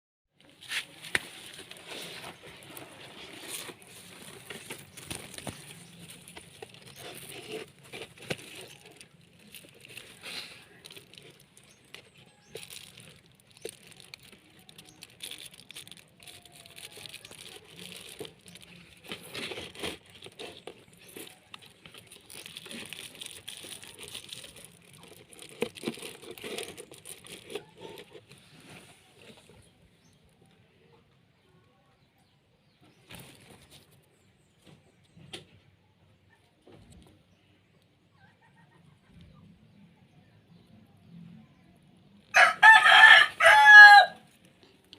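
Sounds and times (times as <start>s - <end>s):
rustling and crinkling: 0.4s - 30.9s, 32.8s - 35.7s, 42.1s - 44.9s.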